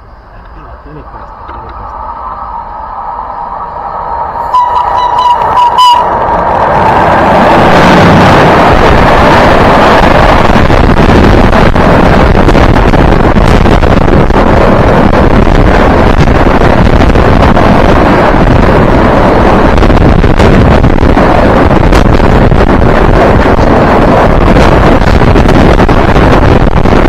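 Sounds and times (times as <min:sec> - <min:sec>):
freight train rushing past: 0:00.0 - 0:27.0.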